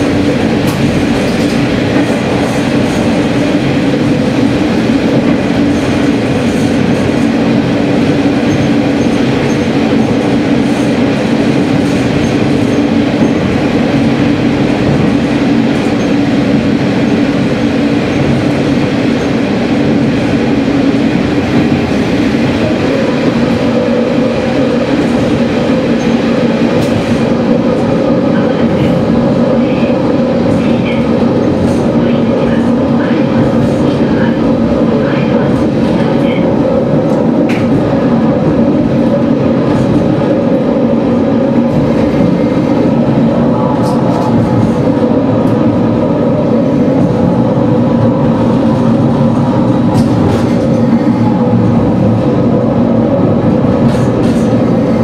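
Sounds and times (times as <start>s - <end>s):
train roaring in a tunnel: 0.0s - 55.0s.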